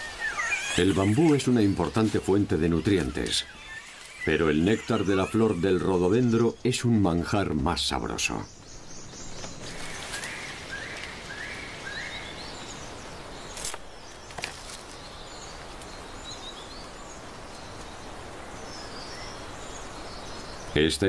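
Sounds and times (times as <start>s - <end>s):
small birds chirping: 0.0s - 21.0s
steady forest hiss: 0.0s - 21.0s.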